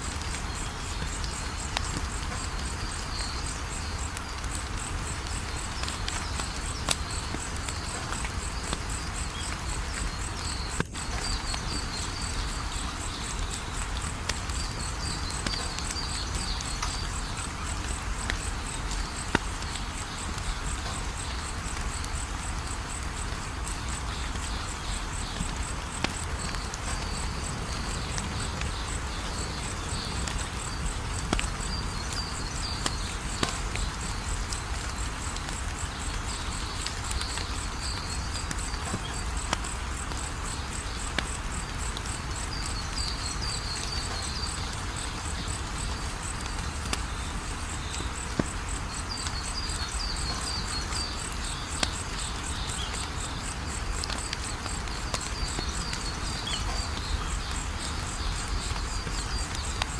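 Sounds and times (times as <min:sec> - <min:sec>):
crickets chirping: 0:00.0 - 0:59.9
wood fire crackling: 0:00.0 - 0:59.9.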